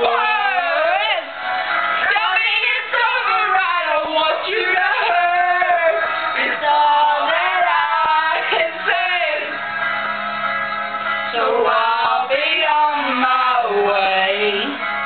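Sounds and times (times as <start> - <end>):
person singing: 0.0 - 10.0, 11.3 - 15.0
rock ballad music: 0.0 - 15.0.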